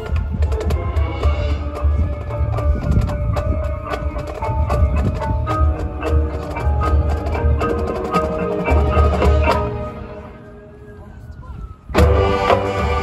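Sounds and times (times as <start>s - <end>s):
mallet keyboards playing: 0.0s - 11.3s, 11.9s - 13.0s.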